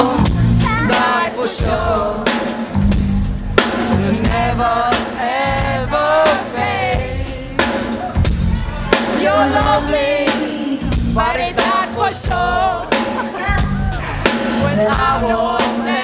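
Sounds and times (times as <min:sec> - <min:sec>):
drum kit beat: 0:00.0 - 0:16.0
live band playing: 0:00.0 - 0:16.0.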